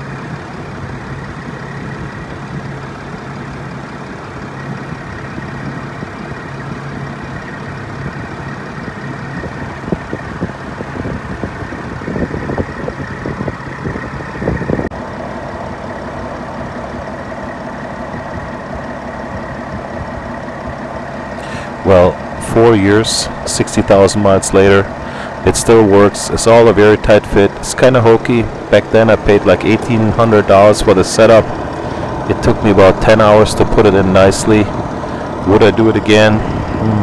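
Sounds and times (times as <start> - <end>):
van engine idling: 0.0 - 37.0.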